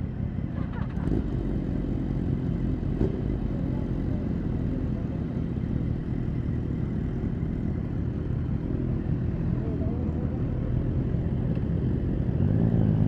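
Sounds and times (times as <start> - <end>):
motorcycles idling: 0.4 - 13.0.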